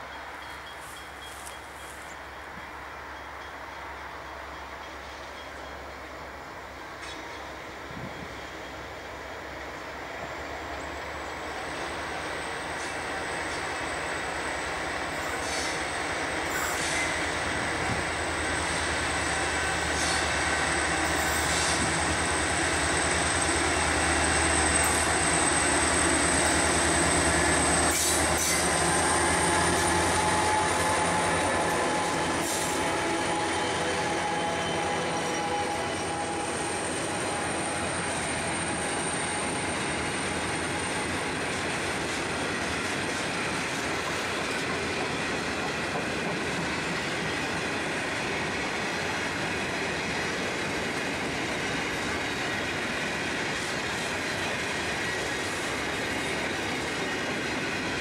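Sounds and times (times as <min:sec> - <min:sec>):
diesel locomotive engines: 0:00.0 - 0:58.0
train wheels squealing: 0:00.0 - 0:58.0.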